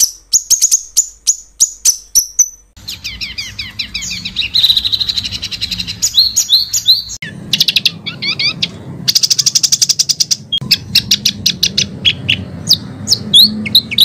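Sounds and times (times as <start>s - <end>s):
songbird chirps and trills: 0.0s - 14.0s.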